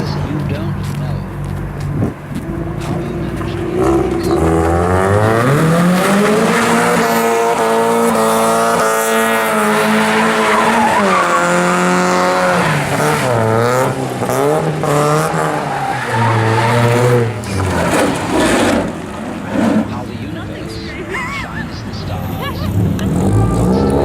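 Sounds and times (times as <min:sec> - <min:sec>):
car engine revving: 0:00.0 - 0:24.0
tyres squealing: 0:00.0 - 0:24.0.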